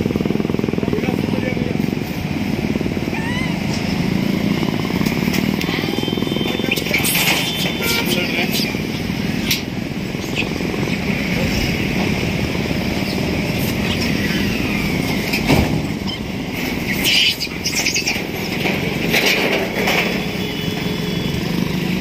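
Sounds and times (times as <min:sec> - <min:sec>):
motorcycle passing: 0:00.0 - 0:22.0
steady road rumble: 0:00.0 - 0:22.0.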